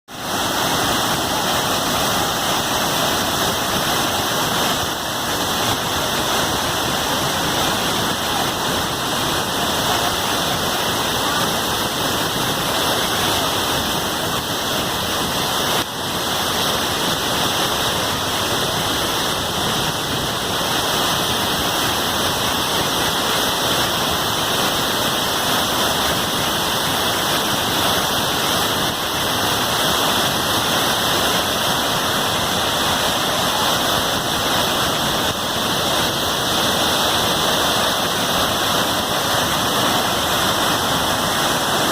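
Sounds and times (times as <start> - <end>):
waterfall pouring: 0.1 - 41.9.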